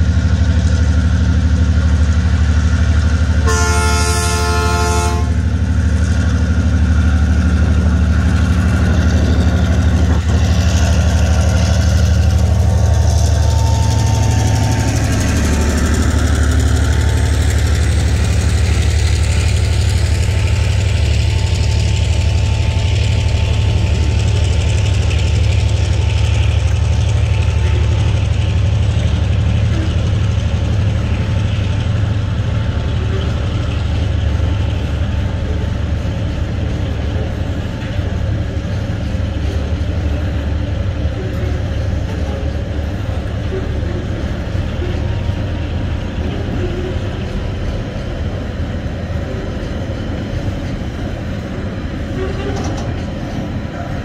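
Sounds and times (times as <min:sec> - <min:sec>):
diesel locomotive engine: 0:00.0 - 0:54.0
wagons rumbling over rails: 0:00.0 - 0:54.0.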